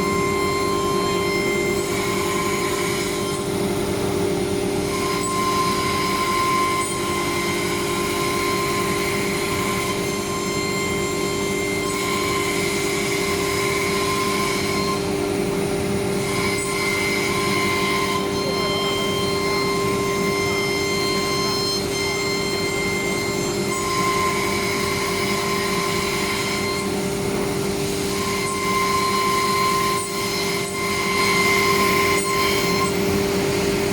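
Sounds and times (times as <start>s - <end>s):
cnc router whining: 0.0s - 33.9s.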